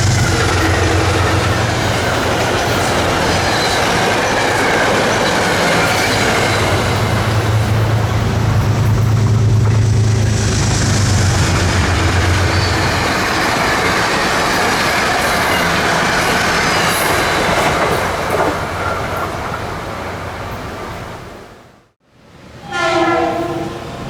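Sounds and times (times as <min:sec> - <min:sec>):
train wheel-on-rail noise: 0:00.0 - 0:24.0.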